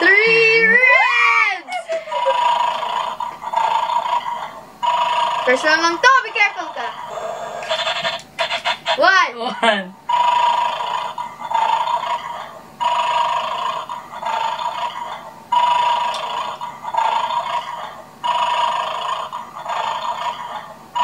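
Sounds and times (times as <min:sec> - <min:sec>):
toy dog snoring through speaker: 0:02.1 - 0:06.0, 0:06.6 - 0:09.0, 0:10.1 - 0:21.0.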